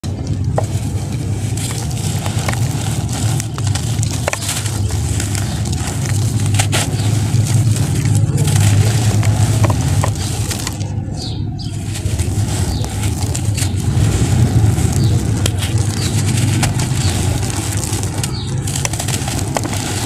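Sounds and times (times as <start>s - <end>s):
crumbling block gritty crackling: 0.0s - 20.0s
steady low rumble: 0.0s - 20.0s.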